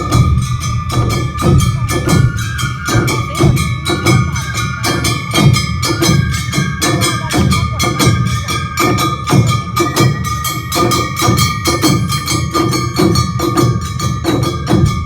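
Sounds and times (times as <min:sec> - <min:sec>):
held high tones: 0:00.0 - 0:12.1
drums beating rapid rhythm: 0:00.0 - 0:15.0.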